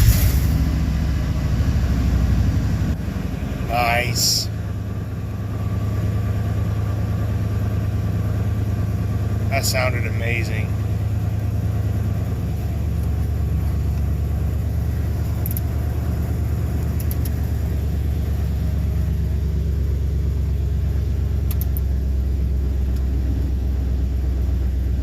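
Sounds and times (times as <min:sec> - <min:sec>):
pickup truck engine idling: 0:00.0 - 0:25.0.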